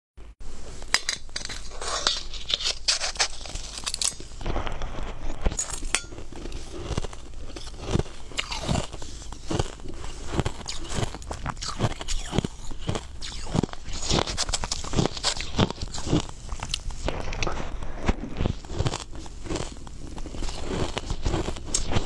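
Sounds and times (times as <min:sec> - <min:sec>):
crushed ice crunching: 0:01.3 - 0:22.0.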